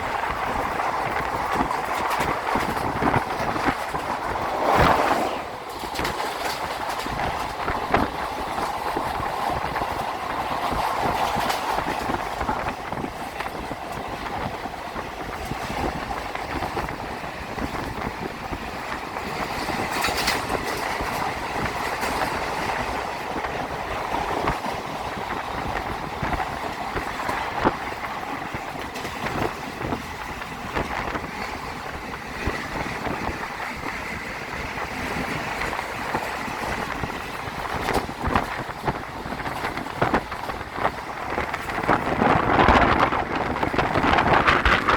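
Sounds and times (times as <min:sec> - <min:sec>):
train rumbling and rattling: 0:00.0 - 0:44.9
wheels clicking over rails: 0:00.0 - 0:44.9.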